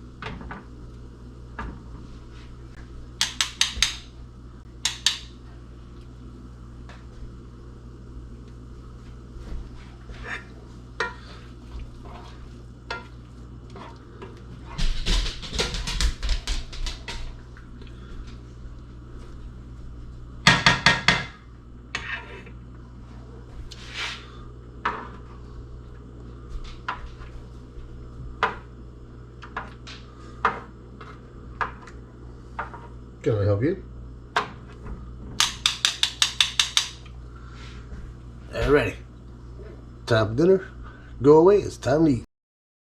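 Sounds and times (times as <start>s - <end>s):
steady low hum: 0.0s - 42.2s.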